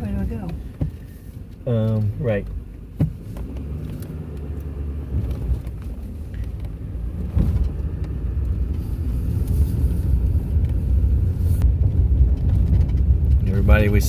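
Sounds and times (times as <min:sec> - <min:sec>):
vehicle road and engine rumble: 0:00.0 - 0:14.0.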